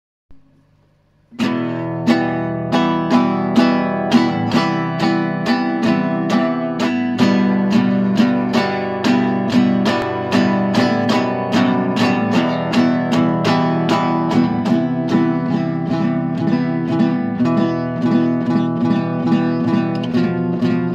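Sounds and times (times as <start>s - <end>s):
acoustic guitar strumming: 0.3s - 20.9s.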